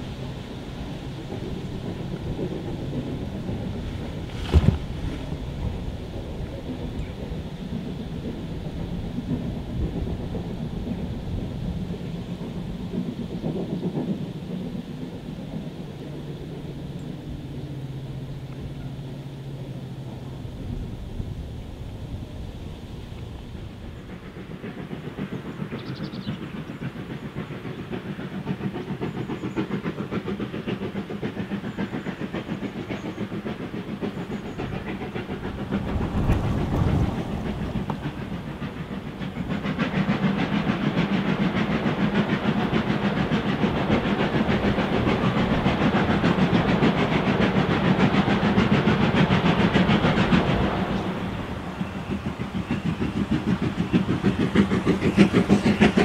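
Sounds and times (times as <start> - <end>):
steam locomotive exhaust beats: 0.0 - 56.0
wheels clattering on rails: 0.0 - 56.0.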